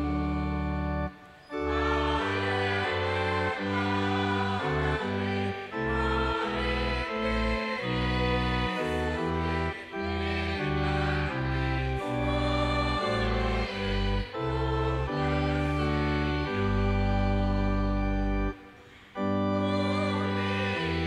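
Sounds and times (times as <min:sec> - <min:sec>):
congregation singing a hymn: 0:00.0 - 0:21.0
organ chords: 0:00.0 - 0:21.0.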